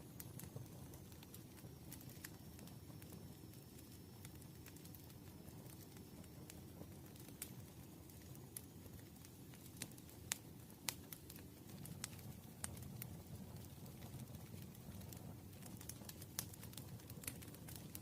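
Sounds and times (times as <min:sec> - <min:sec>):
campfire crackling and popping: 0:00.0 - 0:18.0
low rumble of burning: 0:00.0 - 0:18.0.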